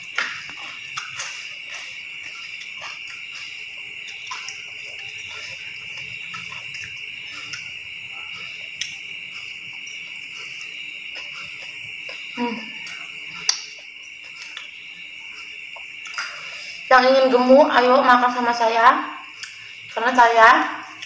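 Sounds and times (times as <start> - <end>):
eating by hand clicks and smacks: 0.0 - 16.6, 19.3 - 20.0
crickets chirring: 0.0 - 21.0.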